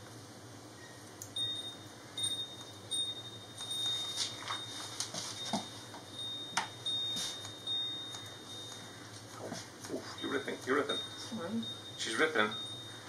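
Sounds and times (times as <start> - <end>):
thin high ringing tone: 0.7 - 13.0.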